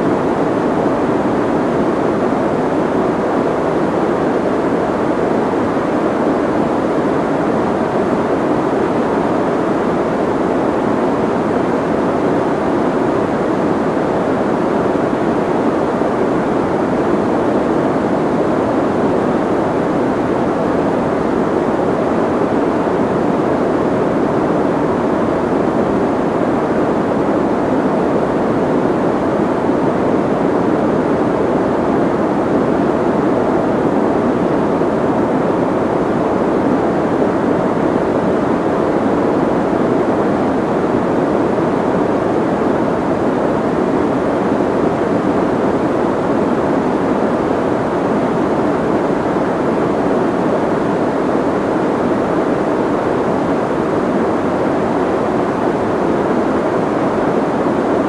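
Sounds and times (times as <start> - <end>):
soft white noise: 0.0 - 58.0.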